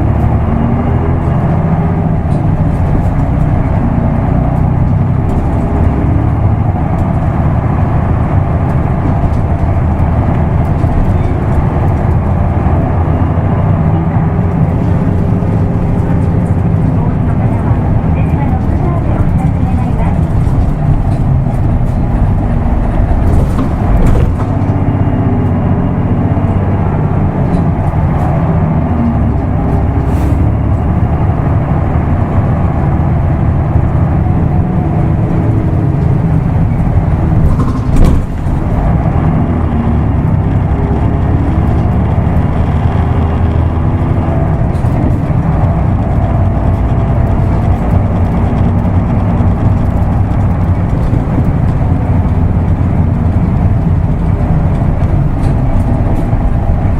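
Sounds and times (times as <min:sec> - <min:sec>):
bus diesel engine accelerating: 0:00.0 - 0:56.9.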